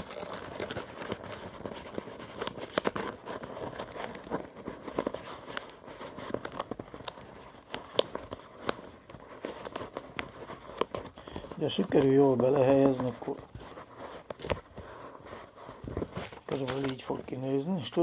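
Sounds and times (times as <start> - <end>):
paper crinkling: 0.0 - 18.0.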